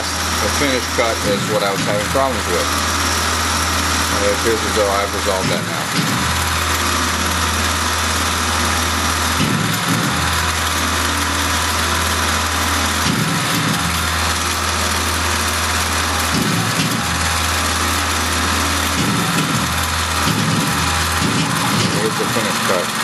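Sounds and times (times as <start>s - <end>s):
lathe spindle cutting: 0.0s - 23.0s.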